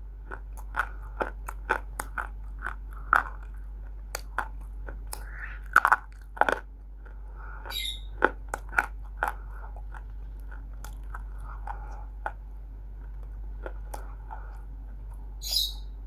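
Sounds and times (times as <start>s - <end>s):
clay being chewed with crunches: 0.0s - 15.8s
steady low hum: 0.0s - 16.0s.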